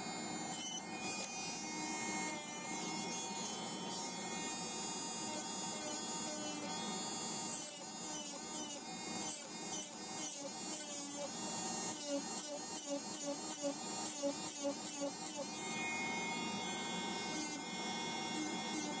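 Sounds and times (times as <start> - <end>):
electric nail drill whining: 0.0 - 19.0.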